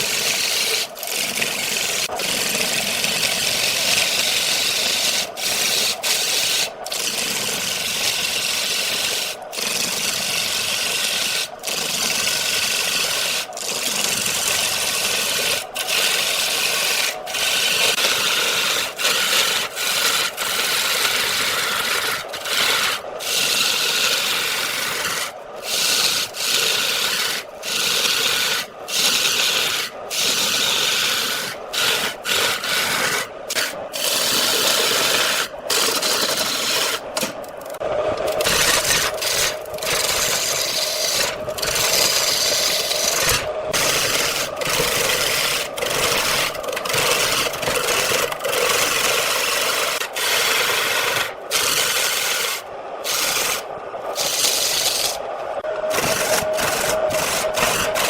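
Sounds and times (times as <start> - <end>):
tool scraping wood on lathe: 0.0 - 58.0.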